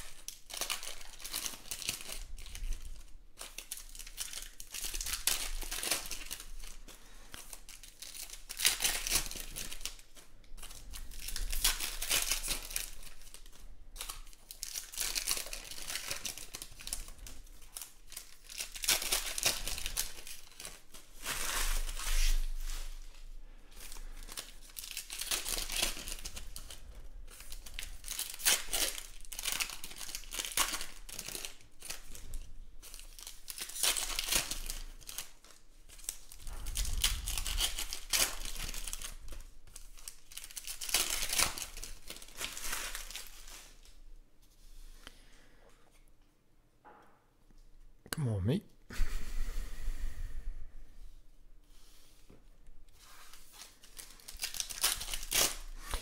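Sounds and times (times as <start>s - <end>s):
foil wrappers tearing and crinkling: 0.0s - 44.0s, 53.0s - 56.0s.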